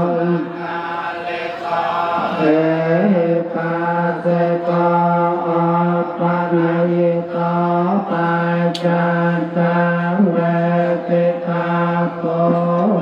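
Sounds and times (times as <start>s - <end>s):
chanting on one pitch: 0.0s - 13.0s.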